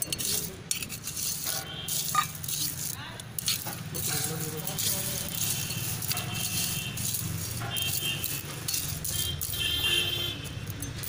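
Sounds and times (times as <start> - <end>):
stones rattling in steel bowl: 0.0 - 11.0.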